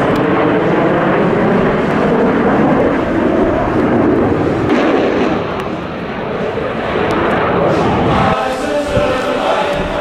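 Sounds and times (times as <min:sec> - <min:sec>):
jets passing overhead: 0:00.0 - 0:10.0.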